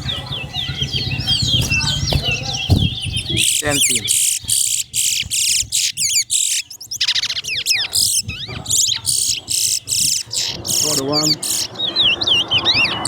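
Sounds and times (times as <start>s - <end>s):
finches singing warbled phrases: 0.0s - 13.0s.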